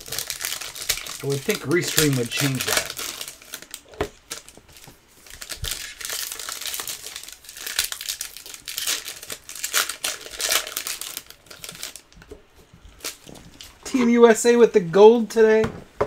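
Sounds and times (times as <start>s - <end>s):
plastic tearing: 0.0s - 13.8s
plastic packaging crinkling: 0.0s - 14.0s.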